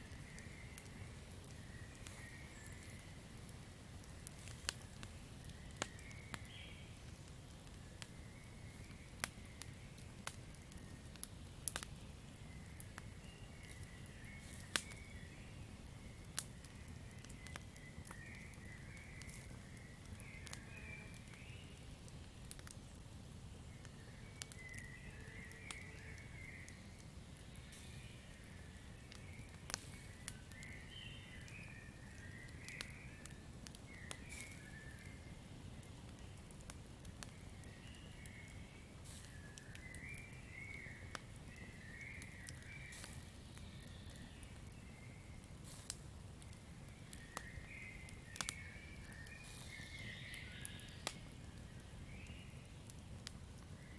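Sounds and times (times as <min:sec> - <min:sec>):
campfire crackling and popping: 0:00.0 - 0:53.9
low steady hiss: 0:00.0 - 0:53.9.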